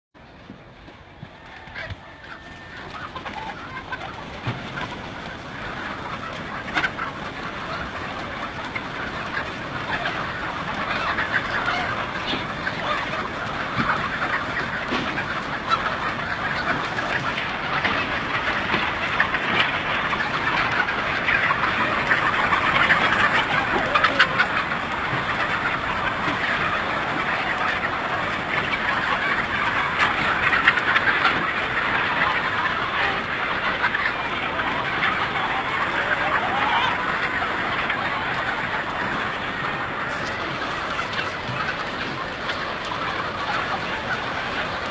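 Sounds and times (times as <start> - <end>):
chickens clucking and squawking: 0.2 - 44.9.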